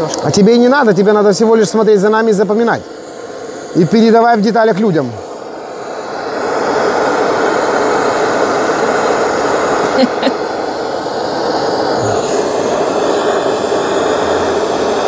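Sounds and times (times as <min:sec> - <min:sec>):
gas torch roaring: 0:00.0 - 0:15.0.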